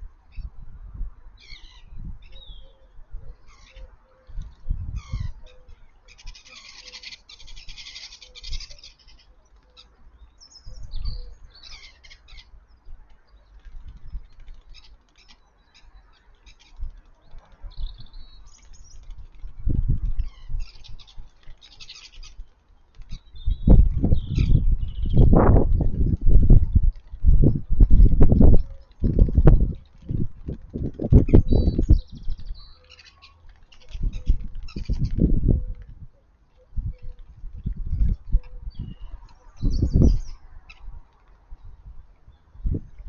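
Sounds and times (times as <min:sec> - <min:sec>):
small birds chirping: 0:01.4 - 0:35.8, 0:36.6 - 0:43.0.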